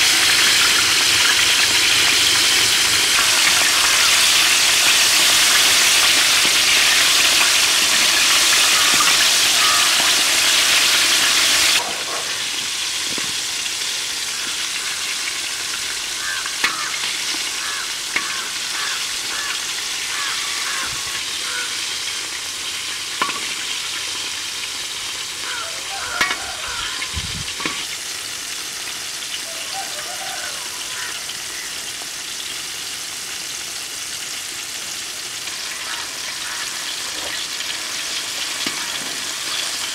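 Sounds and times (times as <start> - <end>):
chicken deep-frying in oil: 0.0 - 39.9.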